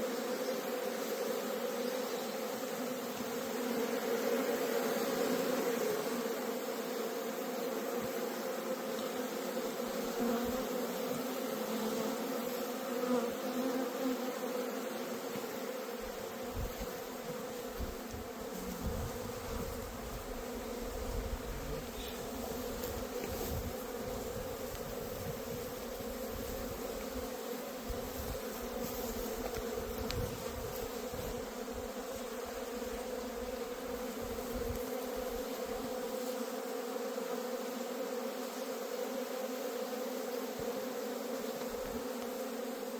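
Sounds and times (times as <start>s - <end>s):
honeybees buzzing: 0.0s - 42.9s.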